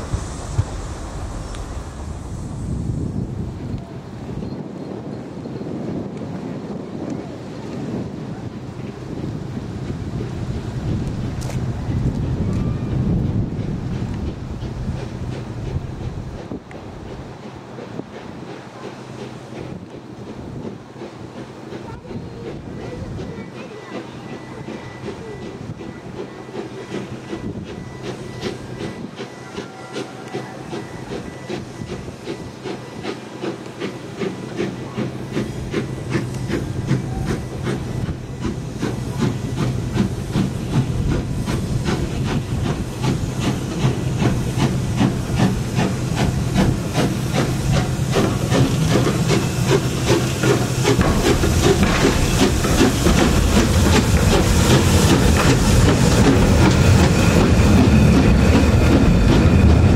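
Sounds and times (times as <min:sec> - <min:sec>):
steam hissing: 0:00.0 - 0:05.8, 0:07.8 - 0:59.9
steam locomotive exhaust beats: 0:00.0 - 0:59.9.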